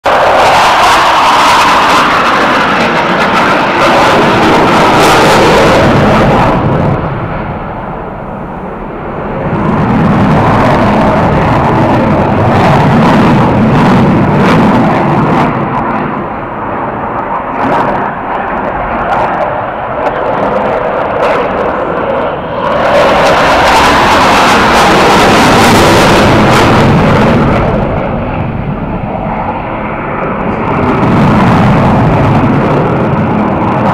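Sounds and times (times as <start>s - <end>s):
jet engines roaring: 0.0s - 33.9s.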